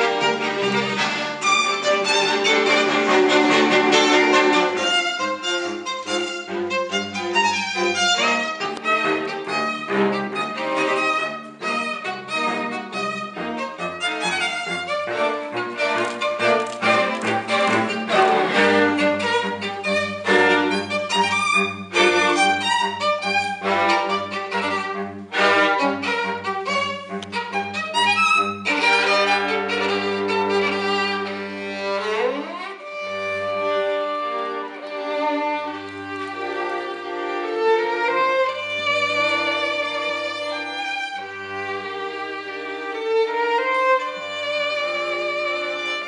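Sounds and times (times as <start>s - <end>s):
string ensemble playing: 0.0s - 46.0s.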